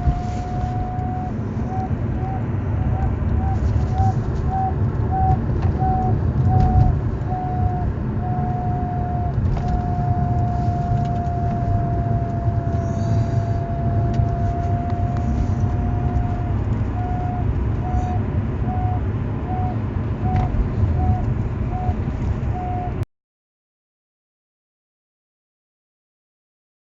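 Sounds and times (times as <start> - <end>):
pulsing whine: 0.0 - 23.0
road and engine rumble: 0.0 - 23.1.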